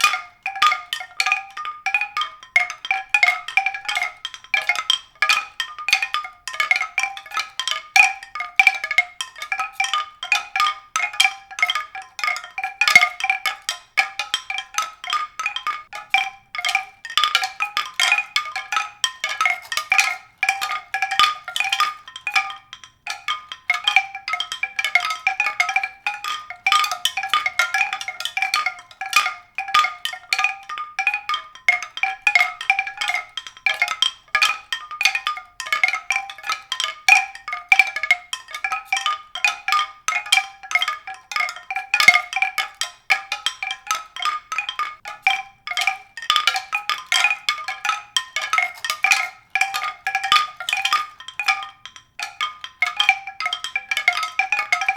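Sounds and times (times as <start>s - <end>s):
mallet percussion music: 0.0s - 54.9s.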